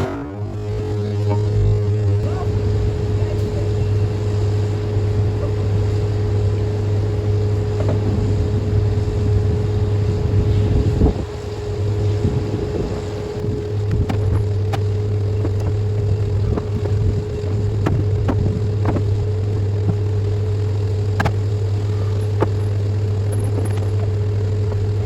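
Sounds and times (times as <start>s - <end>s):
machine whine: 0.0s - 25.0s
sawmill machinery drone: 0.0s - 25.0s.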